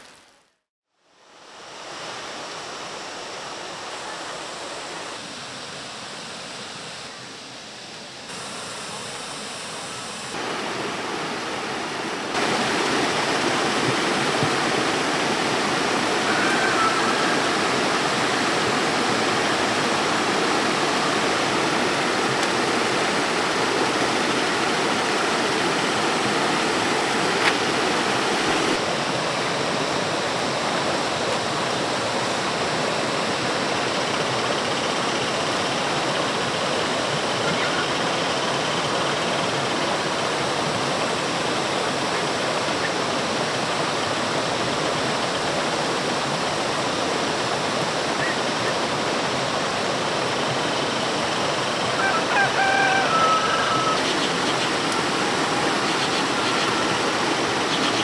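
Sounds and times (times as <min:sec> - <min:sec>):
heavy rain pouring: 0:08.3 - 0:34.2, 0:35.4 - 0:58.0.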